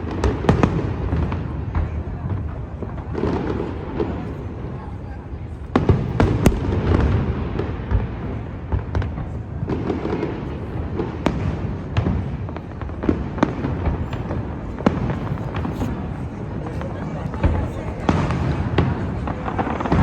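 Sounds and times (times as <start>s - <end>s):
firework bangs: 0.0s - 20.0s.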